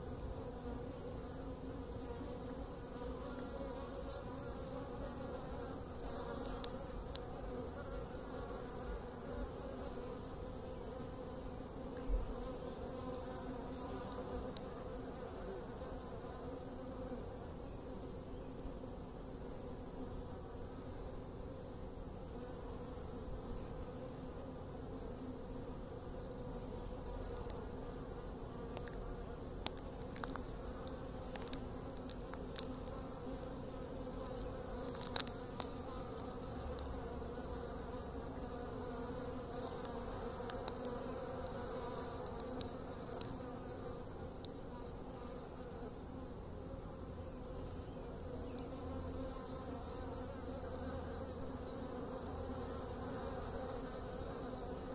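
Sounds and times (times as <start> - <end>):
insect wings buzzing: 0.0 - 54.9.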